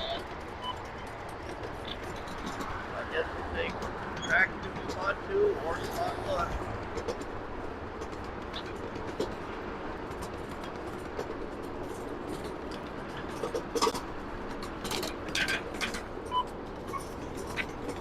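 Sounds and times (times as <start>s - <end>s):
miniature train rolling on track: 0.0s - 18.0s.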